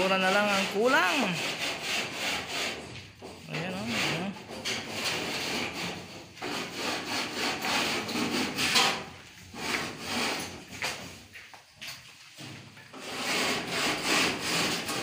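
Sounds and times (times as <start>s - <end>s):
hand tool rasping on ceiling boards: 0.0s - 11.2s, 12.9s - 15.0s.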